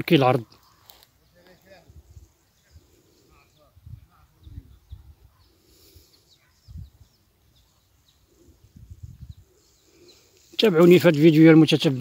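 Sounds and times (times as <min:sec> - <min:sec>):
faint bird chirping: 0:00.1 - 0:12.0.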